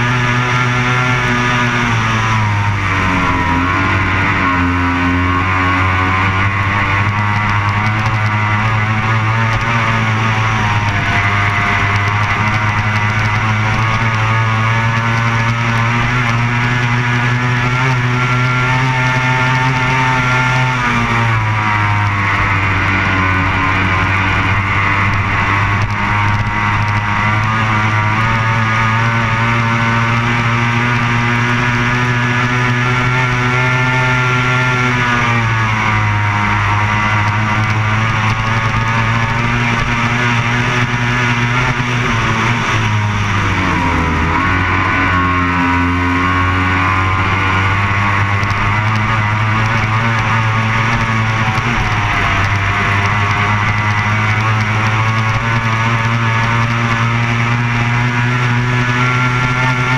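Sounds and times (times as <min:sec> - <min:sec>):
powerboat engine running hard: 0:00.0 - 0:59.9.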